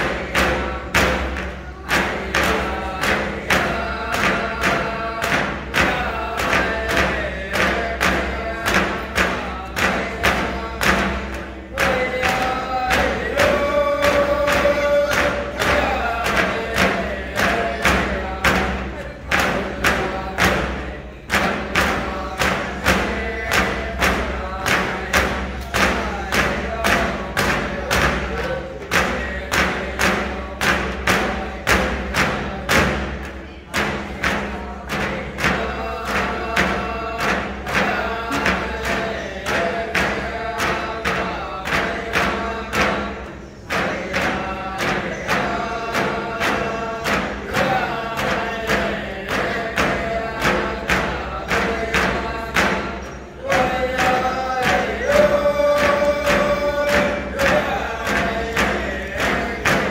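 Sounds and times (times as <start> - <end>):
frame drums beating: 0.0 - 59.9
group of voices singing: 0.0 - 59.9.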